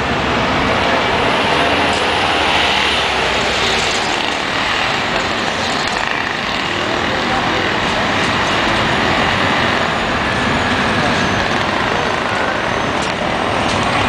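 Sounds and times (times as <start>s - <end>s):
bus driving past: 0.0s - 14.0s.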